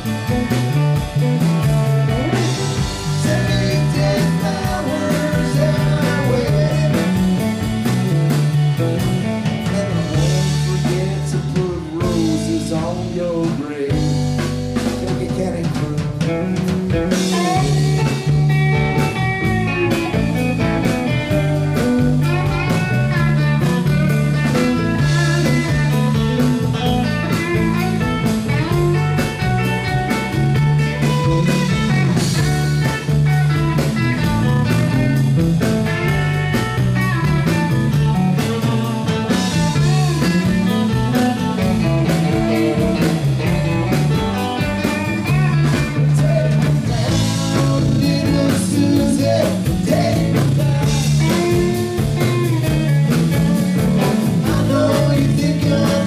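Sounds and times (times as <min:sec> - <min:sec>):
lead guitar bending notes: 0:00.0 - 0:13.2, 0:16.3 - 0:55.8
rock band playing: 0:00.0 - 0:56.0.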